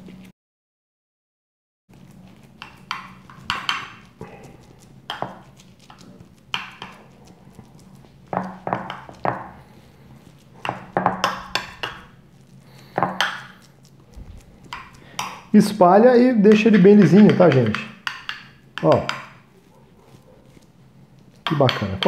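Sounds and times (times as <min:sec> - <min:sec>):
steady low hum: 0:01.9 - 0:21.5.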